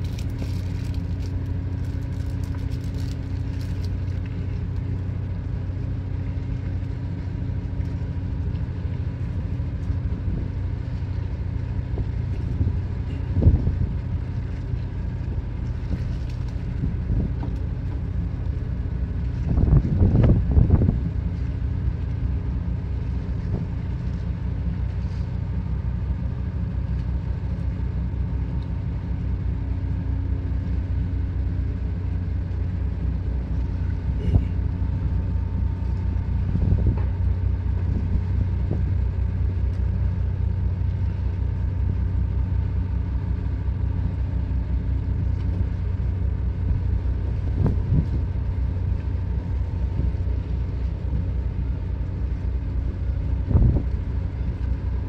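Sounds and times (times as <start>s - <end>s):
ship engine humming: 0.0s - 55.0s.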